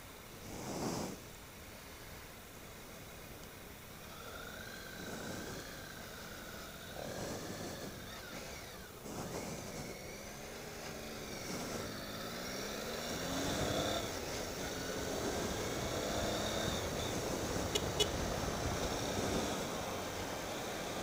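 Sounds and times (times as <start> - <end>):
motorcycle engine accelerating: 4.0 - 21.0.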